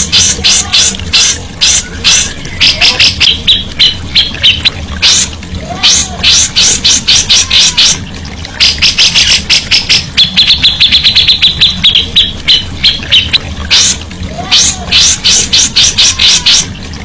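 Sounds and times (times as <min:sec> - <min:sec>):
songbird raspy calls: 0:00.0 - 0:08.0, 0:08.6 - 0:16.7
bird ticking notes: 0:00.0 - 0:17.0.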